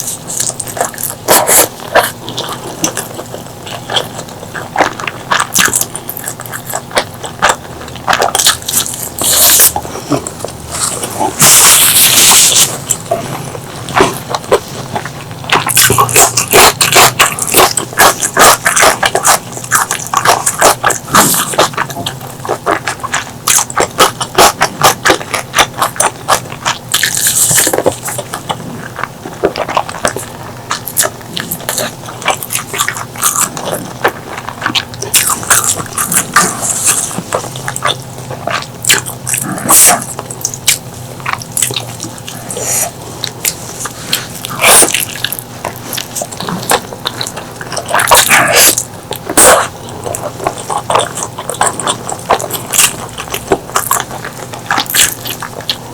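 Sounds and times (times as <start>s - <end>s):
chewing and mouth smacking: 0.0s - 55.9s.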